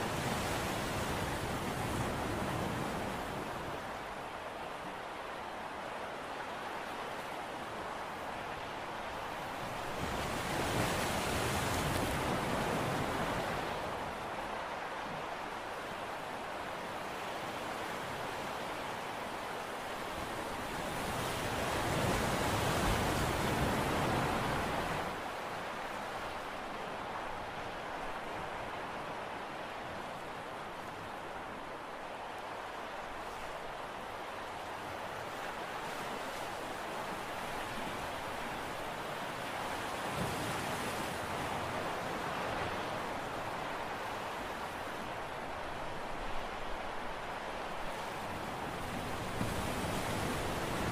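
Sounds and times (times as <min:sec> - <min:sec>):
sea rushing: 0:00.0 - 0:50.9
wind: 0:00.0 - 0:50.9.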